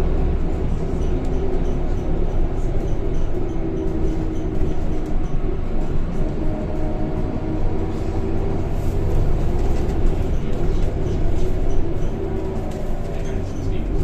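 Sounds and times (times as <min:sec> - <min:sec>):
bus engine rumble: 0:00.0 - 0:14.0.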